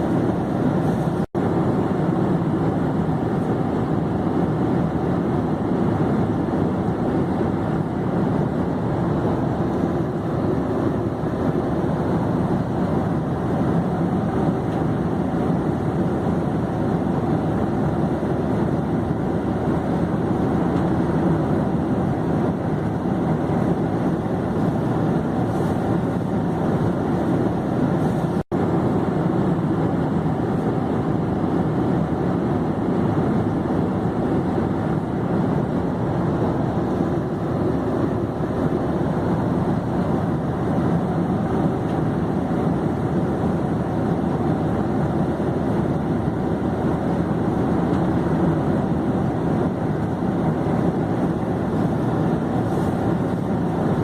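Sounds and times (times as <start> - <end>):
airplane engine and airflow drone: 0.0 - 54.0.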